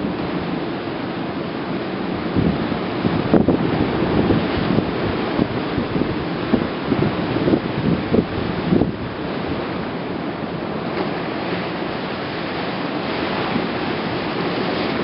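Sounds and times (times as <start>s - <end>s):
harbour water rushing: 0.0s - 15.0s
wind buffeting microphone: 0.0s - 15.0s.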